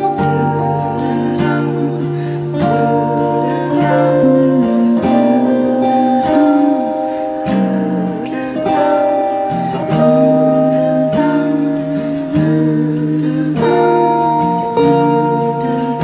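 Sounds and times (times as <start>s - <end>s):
guitars playing: 0.0s - 16.0s
sustained wordless singing: 0.0s - 16.0s.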